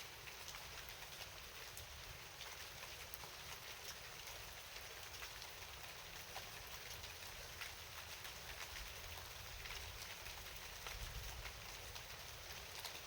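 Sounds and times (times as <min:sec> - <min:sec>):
rain drops ticking: 0:00.0 - 0:13.0.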